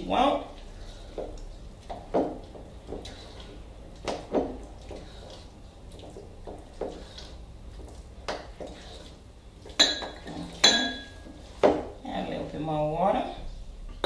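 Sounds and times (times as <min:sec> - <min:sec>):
spoon stirring thick paste: 0:00.0 - 0:12.5.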